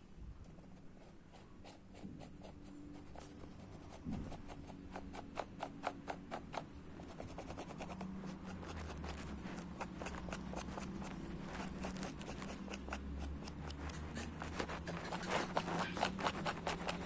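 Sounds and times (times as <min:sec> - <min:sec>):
soft scratchy rubbing on canvas: 0:00.0 - 0:17.0.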